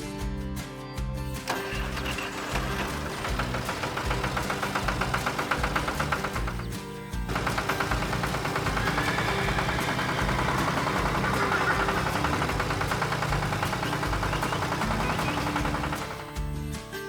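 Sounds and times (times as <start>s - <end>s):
tractor engine chugging: 1.4s - 16.6s.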